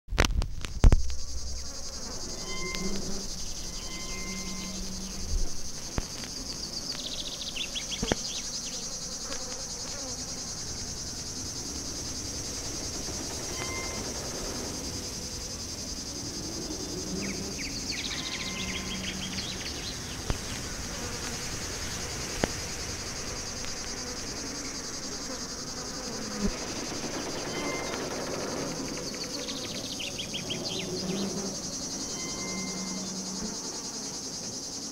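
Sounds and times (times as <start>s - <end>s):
insects chirring: 0.1s - 34.9s.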